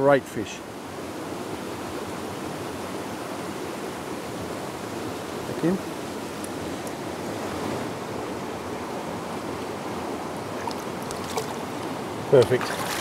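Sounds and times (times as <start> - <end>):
small stream running: 0.0 - 13.0
faint water splashes: 0.4 - 13.0.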